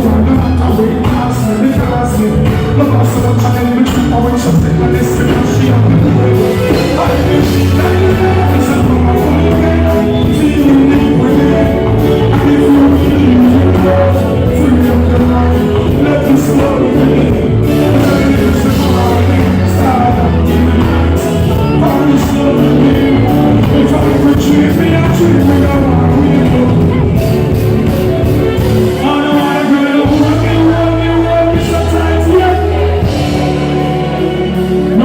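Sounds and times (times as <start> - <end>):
live dancehall music: 0.0 - 35.0
person singing: 0.0 - 35.0
strong bass line: 0.0 - 35.0.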